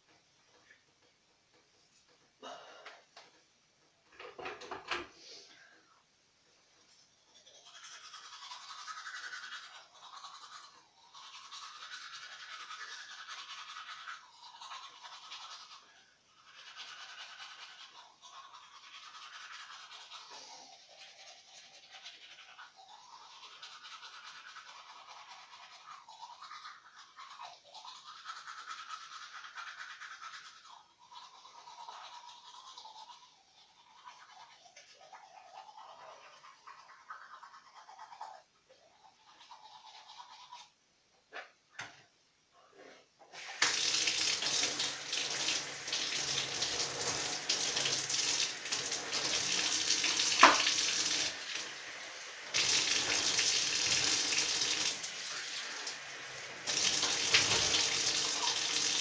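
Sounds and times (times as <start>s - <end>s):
toothbrush scrubbing teeth: 0.0s - 2.4s, 6.4s - 40.8s, 42.7s - 59.0s.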